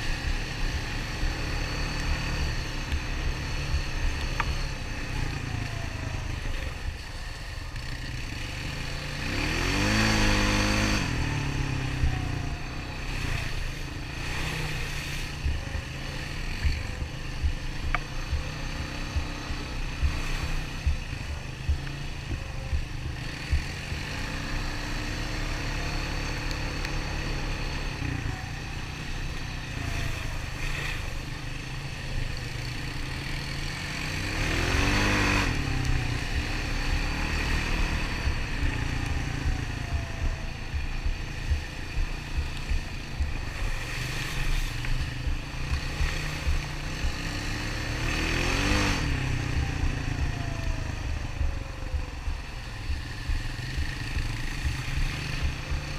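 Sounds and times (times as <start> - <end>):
atv engine rumbling: 0.0 - 55.9.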